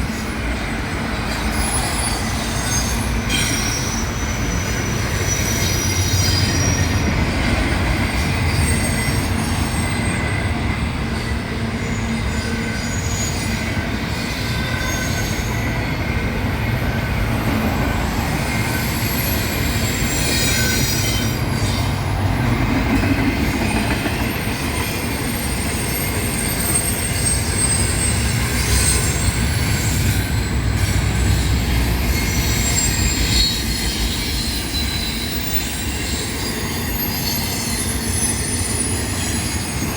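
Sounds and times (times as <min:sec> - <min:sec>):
train wheels rumbling on rail: 0:00.0 - 0:39.9
high wheel squeal: 0:01.1 - 0:22.3, 0:23.4 - 0:39.9.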